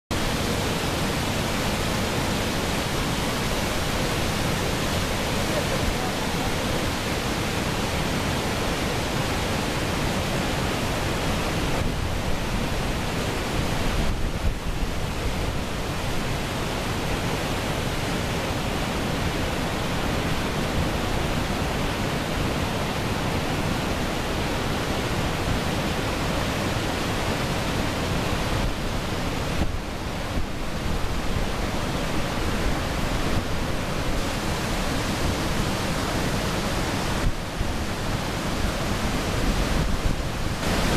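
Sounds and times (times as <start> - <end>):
water rushing through sluice gates: 0.1 - 40.9.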